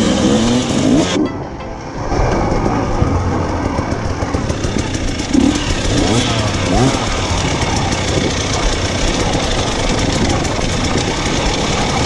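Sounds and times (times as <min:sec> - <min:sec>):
dirt bike engine revving: 0:00.0 - 0:01.2, 0:02.4 - 0:12.0.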